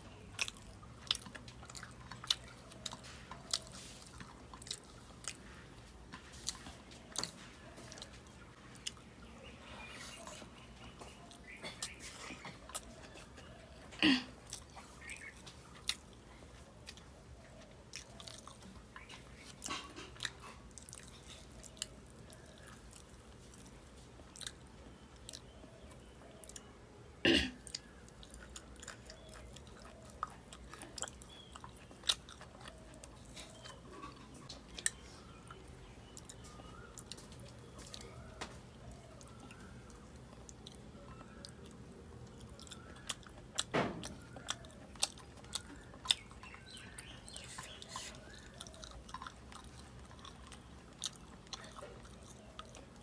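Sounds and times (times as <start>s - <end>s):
person chewing food: 0.0s - 26.7s, 27.5s - 53.0s.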